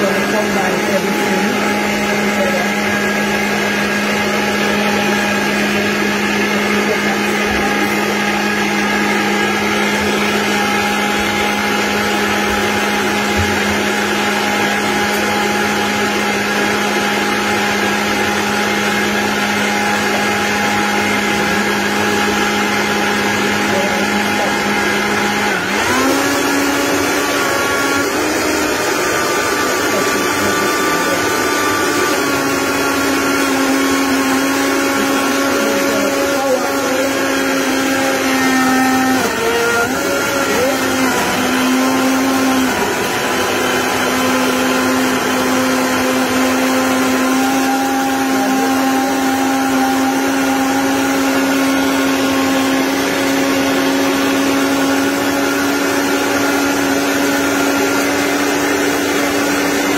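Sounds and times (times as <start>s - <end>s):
blender motor whirring: 0.0s - 59.9s.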